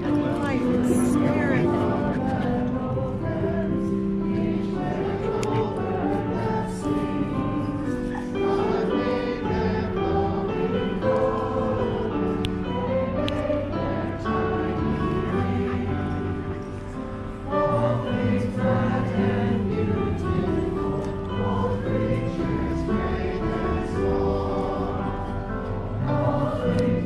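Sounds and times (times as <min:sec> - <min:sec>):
choir singing a hymn: 0:00.0 - 0:27.0.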